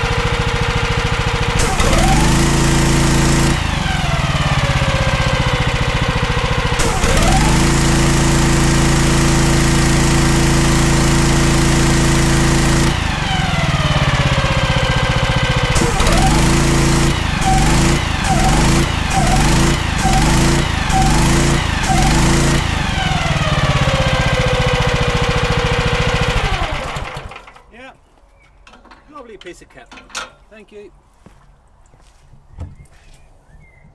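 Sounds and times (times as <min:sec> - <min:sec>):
petrol engine revving: 0:00.0 - 0:27.6.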